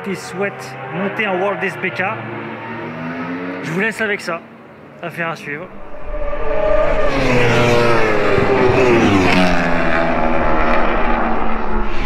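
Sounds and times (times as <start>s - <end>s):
racing motorcycle passing: 0.0s - 3.9s, 5.6s - 12.0s.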